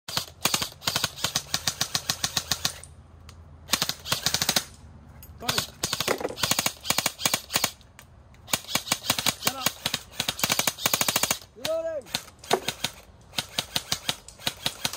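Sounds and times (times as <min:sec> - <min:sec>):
airsoft rifles firing rapidly: 0:00.1 - 0:02.8, 0:03.7 - 0:04.7, 0:05.4 - 0:07.8, 0:08.5 - 0:14.9.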